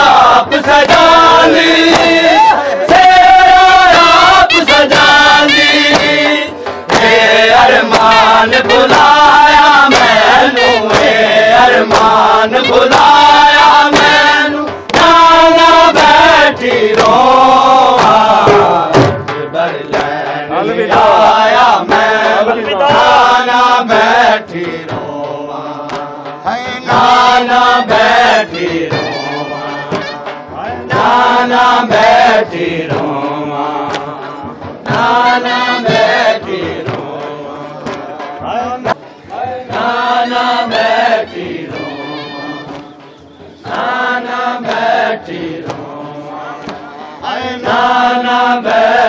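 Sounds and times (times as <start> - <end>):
men chanting a lament: 0.0 - 49.0.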